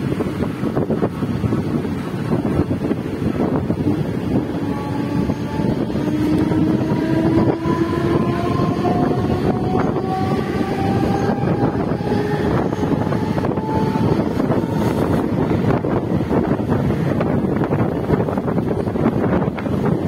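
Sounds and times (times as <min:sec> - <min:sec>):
train wheels rumbling on rail: 0:00.0 - 0:20.0
wind rushing past: 0:00.0 - 0:20.0.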